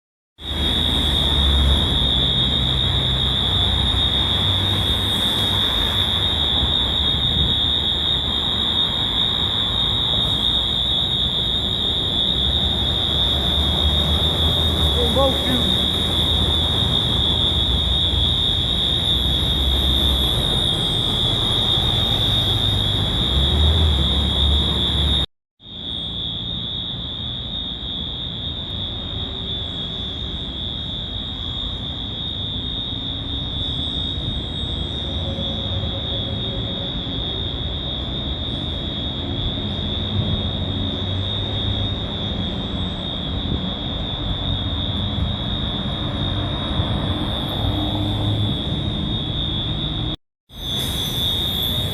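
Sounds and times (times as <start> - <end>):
fire alarm high-pitched tone: 0.4 - 51.9.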